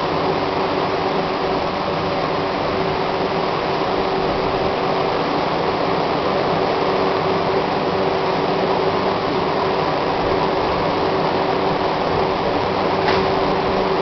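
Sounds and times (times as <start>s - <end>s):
wrapping machine mechanical drone: 0.0s - 14.0s.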